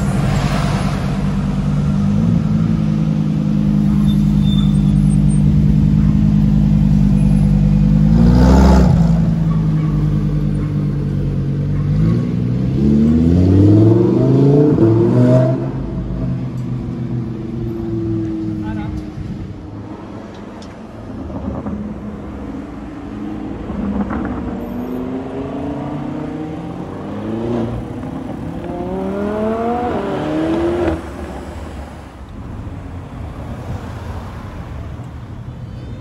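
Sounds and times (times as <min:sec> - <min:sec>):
sports car engine passing: 0:05.4 - 0:34.8.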